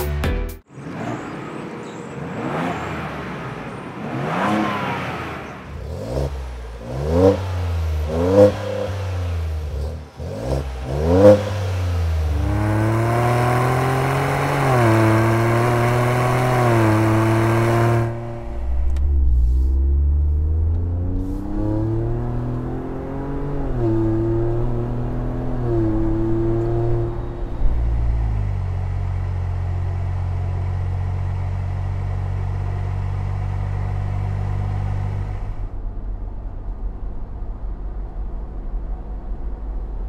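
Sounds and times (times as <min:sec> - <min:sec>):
car exhaust accelerating and cruising: 0:00.7 - 0:40.0.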